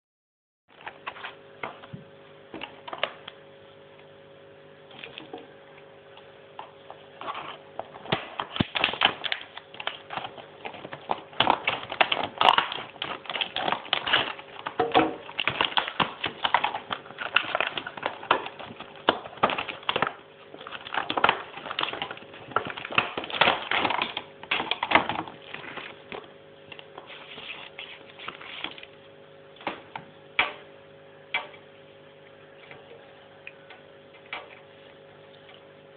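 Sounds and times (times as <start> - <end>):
faint steady hum: 0.7 - 35.9.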